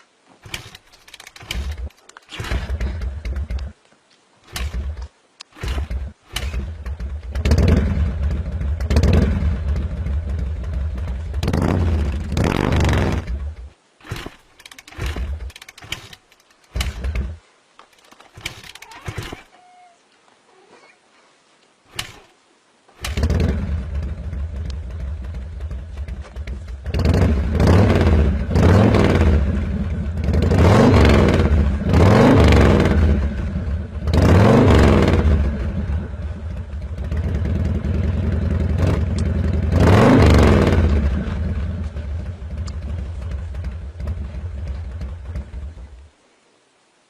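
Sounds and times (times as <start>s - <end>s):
engine revving: 0.4s - 3.8s, 4.5s - 17.4s, 23.0s - 45.6s.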